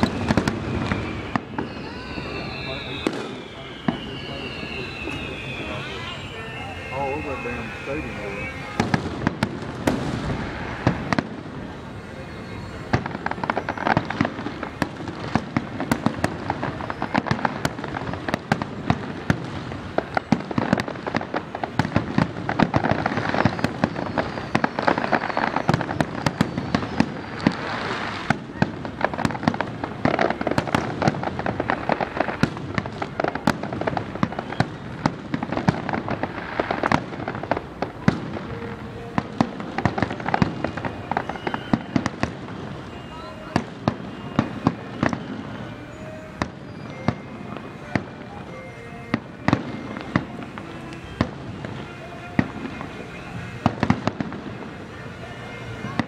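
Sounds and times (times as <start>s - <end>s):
fireworks booming and crackling: 0.0s - 56.0s.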